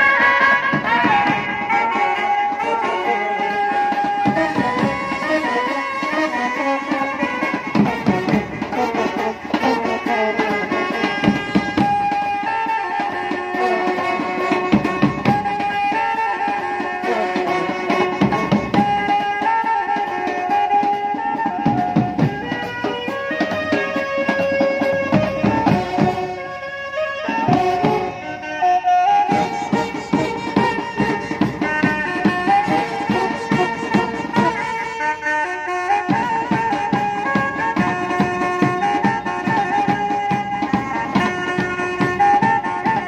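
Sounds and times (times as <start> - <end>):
snare and bass drums: 0.0 - 28.5, 29.2 - 43.0
trumpets and brass horns: 0.0 - 43.0.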